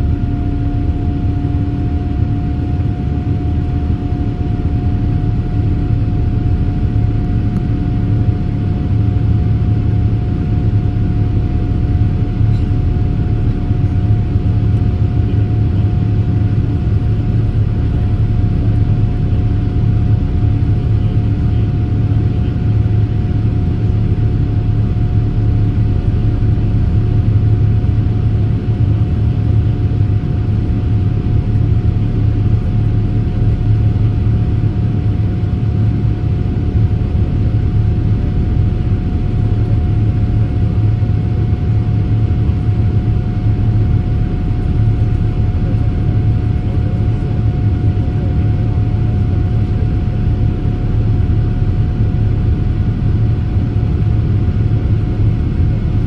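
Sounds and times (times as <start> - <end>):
aircraft engine rumble and rushing air: 0.0 - 56.0.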